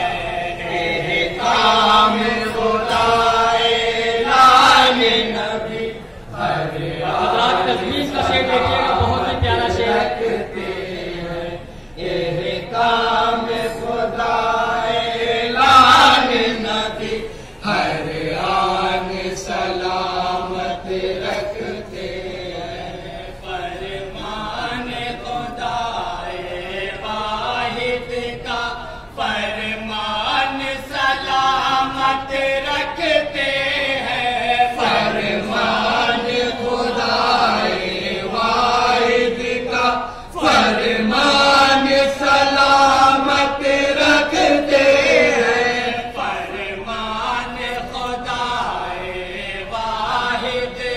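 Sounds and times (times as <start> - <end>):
men chanting in unison: 0.0 - 50.9.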